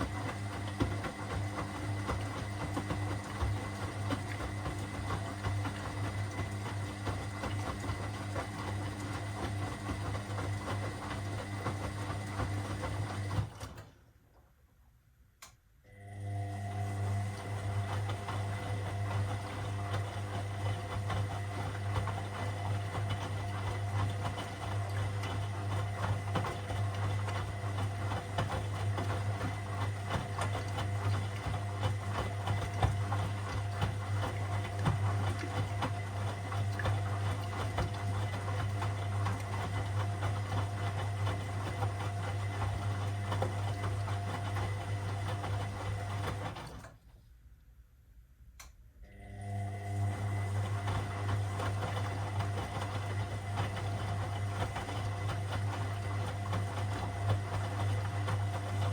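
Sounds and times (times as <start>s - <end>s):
washing machine running: 0.0s - 14.1s, 15.8s - 47.0s, 49.0s - 58.9s.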